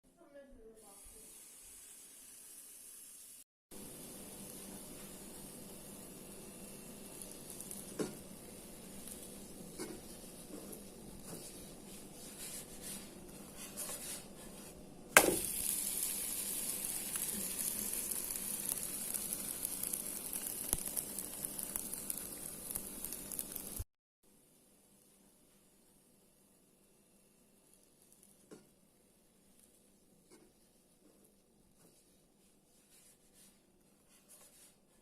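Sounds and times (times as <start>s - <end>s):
batter sizzling in a pan: 0.8s - 35.0s.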